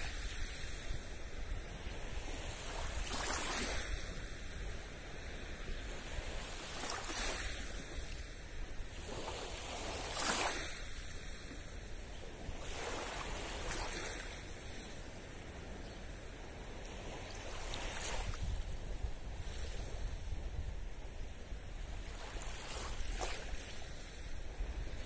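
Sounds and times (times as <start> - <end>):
low wind rumble on microphone: 0.0 - 25.0
small waves lapping: 0.0 - 25.0.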